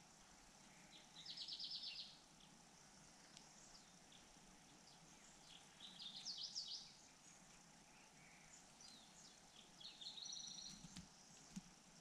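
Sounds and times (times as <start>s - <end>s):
nestlings begging chirps: 0.7s - 11.8s.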